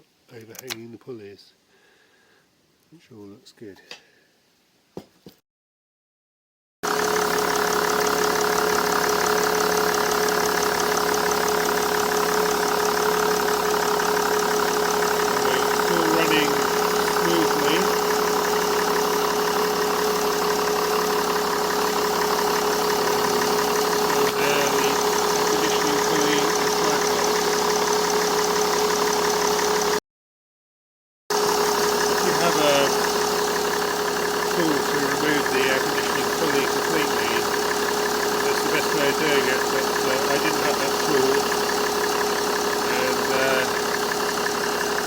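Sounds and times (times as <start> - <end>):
car engine idling: 6.8 - 30.0, 31.3 - 45.0
steady whining tone: 7.1 - 30.0, 31.4 - 45.0.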